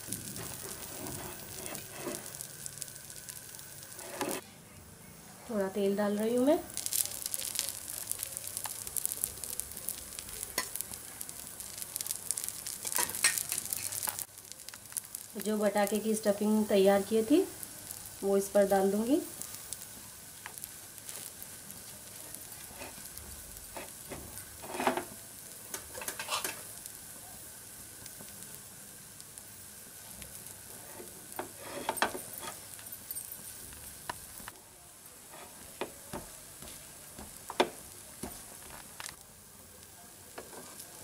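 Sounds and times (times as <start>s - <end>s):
batter sizzling in oil: 0.0s - 4.4s, 5.3s - 41.0s.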